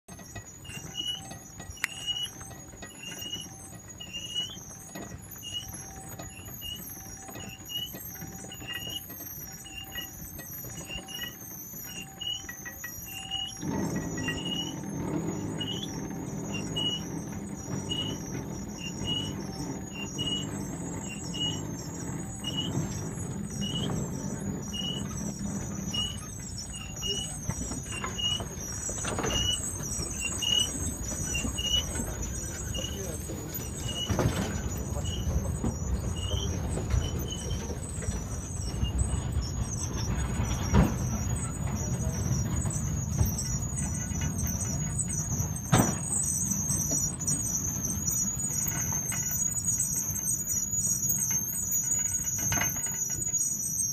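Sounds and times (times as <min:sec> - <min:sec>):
trolley rumbling on rails: 0:00.0 - 0:53.9
trolley squeaking: 0:00.0 - 0:53.9
steady high whine: 0:00.1 - 0:53.9.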